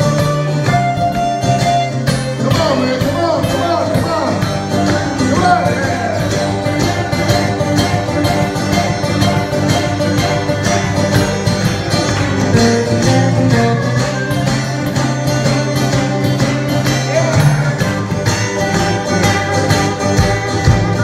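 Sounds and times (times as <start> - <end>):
acoustic and electric guitars playing: 0.0 - 21.0.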